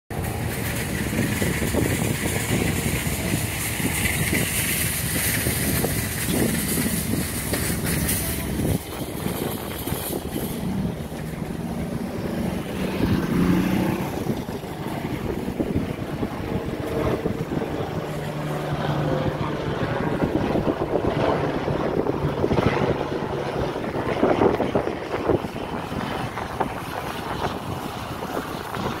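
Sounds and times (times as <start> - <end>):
helicopter rotor beating: 0.1 - 29.0
wind buffeting microphone: 0.1 - 29.0.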